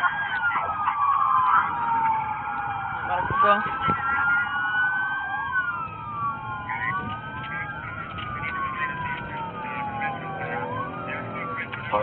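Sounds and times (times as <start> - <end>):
engine and road noise: 0.0 - 12.0
sirens wailing: 0.0 - 12.0.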